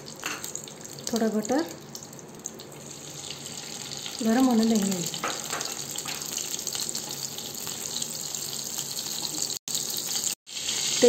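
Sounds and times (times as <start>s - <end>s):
butter sizzling in hot oil: 0.0s - 11.0s.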